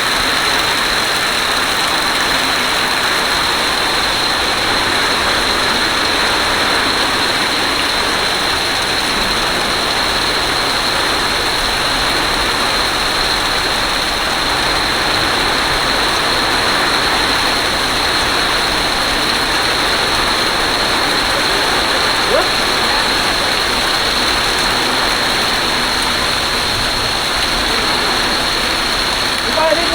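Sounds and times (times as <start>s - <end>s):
flood water rushing: 0.0s - 29.9s.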